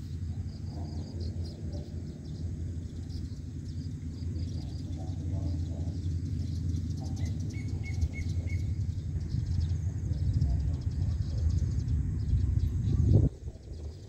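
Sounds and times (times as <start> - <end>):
birds and insects chirping: 0.0 - 14.0
low rumble: 0.0 - 14.0.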